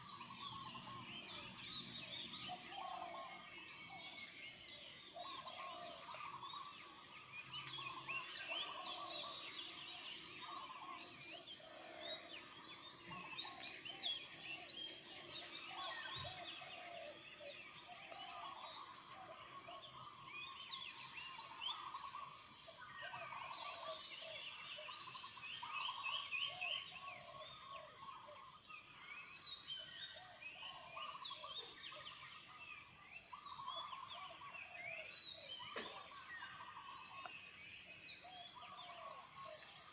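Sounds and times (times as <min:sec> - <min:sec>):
chorus of birds calling: 0:00.0 - 0:39.9.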